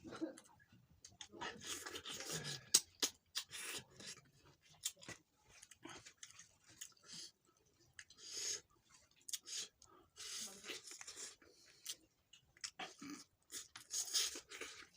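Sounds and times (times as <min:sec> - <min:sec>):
food being chewed and crunched: 0:00.4 - 0:14.9.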